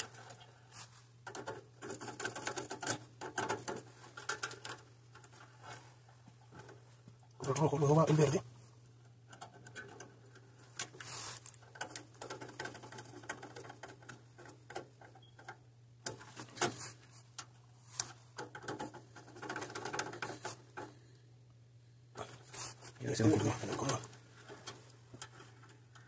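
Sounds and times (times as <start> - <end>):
hands handling wires: 0.0 - 21.0, 22.1 - 26.0.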